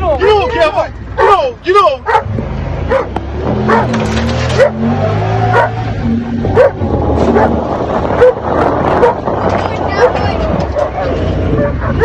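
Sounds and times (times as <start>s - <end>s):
buggy engine running: 0.0s - 12.0s
dogs barking: 1.2s - 5.9s, 6.5s - 12.0s.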